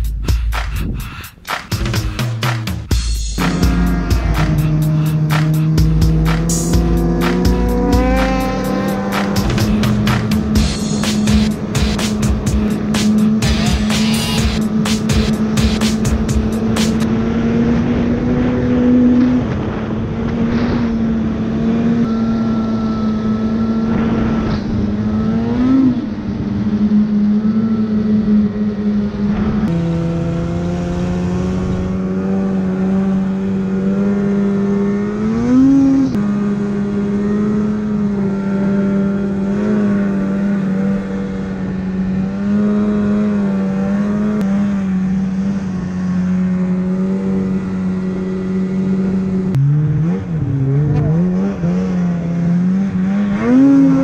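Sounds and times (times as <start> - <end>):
snowmobile engine revving: 1.6 - 54.0
snowmobile engine running: 1.6 - 54.0.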